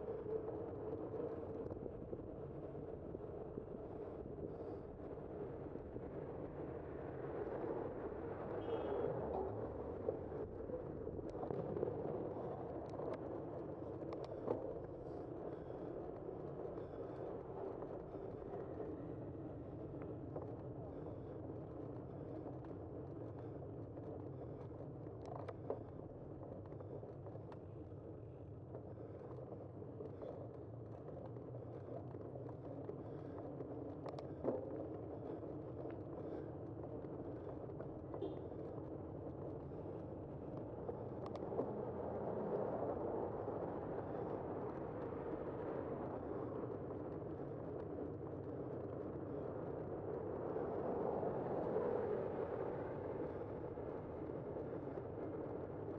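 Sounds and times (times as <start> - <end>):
bicycle road and wind noise: 0.0 - 55.9.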